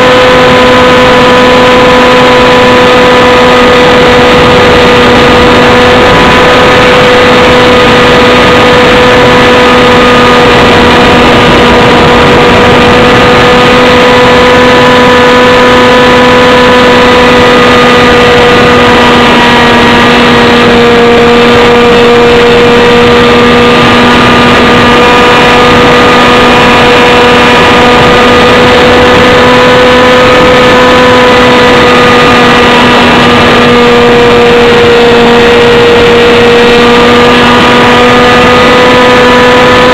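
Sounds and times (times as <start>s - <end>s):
small aircraft engine running: 0.0s - 39.9s.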